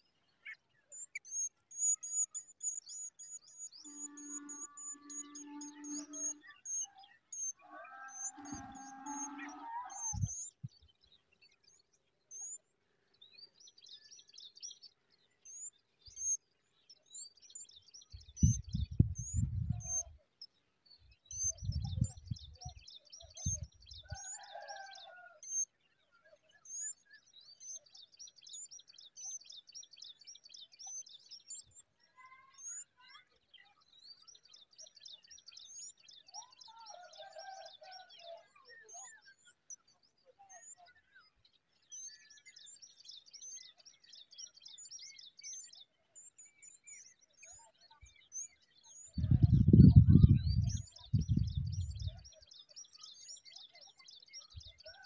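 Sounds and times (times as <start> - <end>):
small songbirds trilling and chirping: 0.0 - 55.0.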